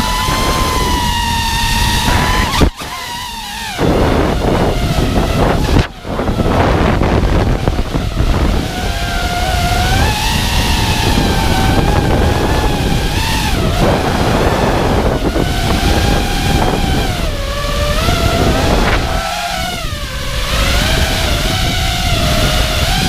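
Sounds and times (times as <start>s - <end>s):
drone motors whining: 0.0s - 23.0s
wind on microphone: 0.0s - 23.0s.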